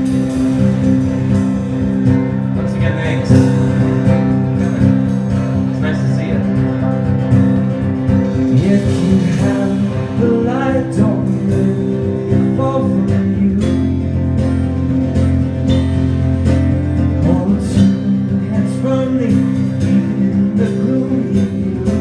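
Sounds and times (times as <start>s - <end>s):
electric guitar: 0.0s - 22.0s
live rock band playing: 0.0s - 22.0s.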